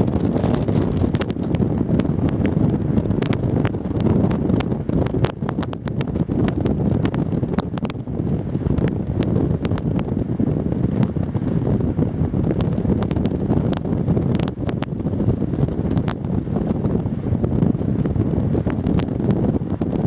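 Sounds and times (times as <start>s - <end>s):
road and traffic noise: 0.0s - 20.0s
wind buffeting microphone: 0.0s - 20.0s.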